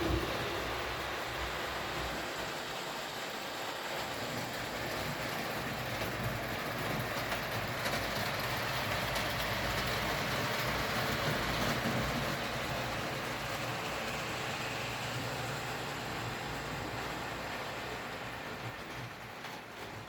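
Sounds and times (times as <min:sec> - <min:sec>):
toy train rushing noise: 0:00.0 - 0:20.0.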